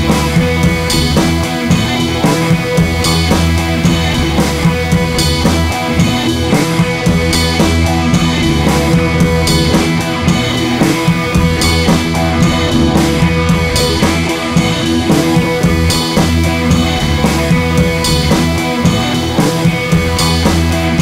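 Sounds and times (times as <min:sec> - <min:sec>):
rock music: 0:00.0 - 0:21.0.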